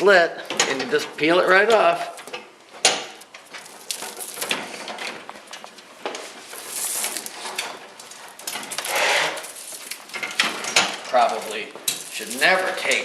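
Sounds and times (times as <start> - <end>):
plastic insulation peeling off wire: 2.0 - 13.0.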